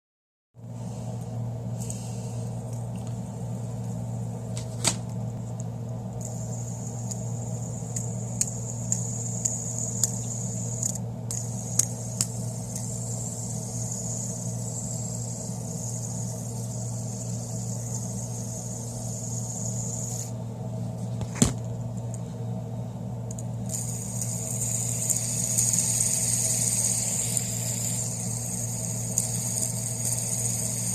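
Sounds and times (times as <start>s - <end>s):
fidget spinner whirring: 0.8s - 20.4s, 23.3s - 30.9s.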